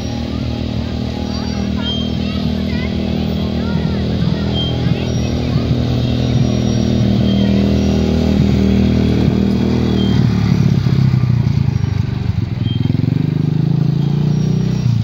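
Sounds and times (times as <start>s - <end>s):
quad bike engine passing by: 0.0s - 15.0s.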